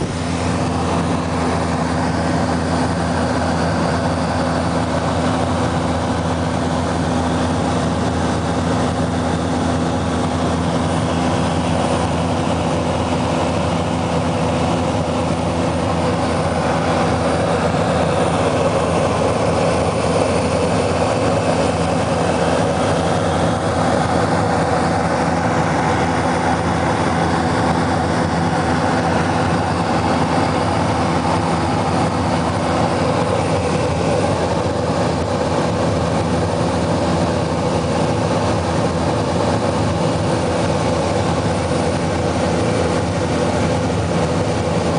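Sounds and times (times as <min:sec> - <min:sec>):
propeller aircraft cabin drone: 0:00.0 - 0:44.9.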